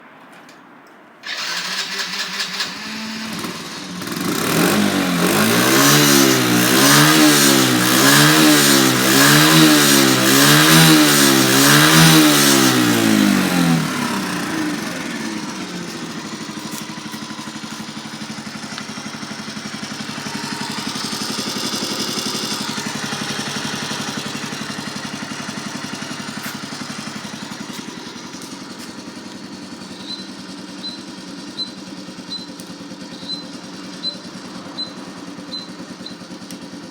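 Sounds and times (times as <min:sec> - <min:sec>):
small motorcycle engine revving: 0:01.2 - 0:36.9.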